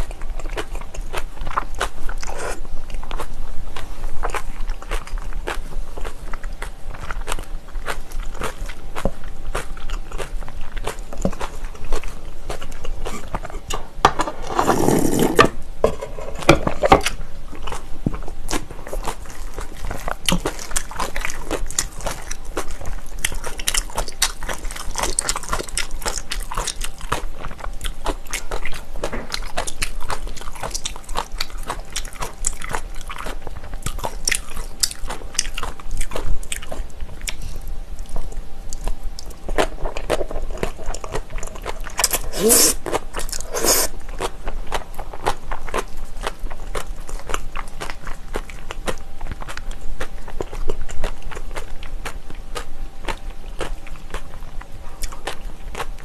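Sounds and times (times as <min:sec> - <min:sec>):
chewing crunchy vegetables: 0:00.0 - 0:56.0.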